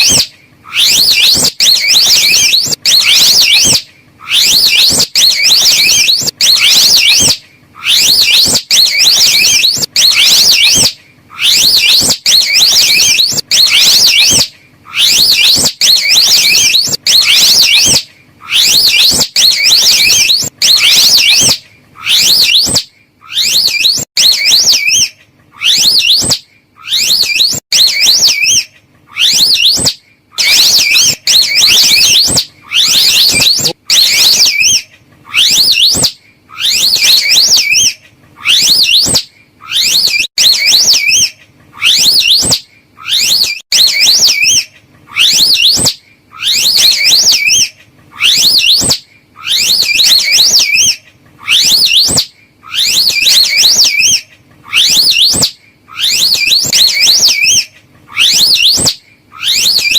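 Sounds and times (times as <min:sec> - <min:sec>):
animal shrill warbling trill: 0:00.0 - 0:59.9.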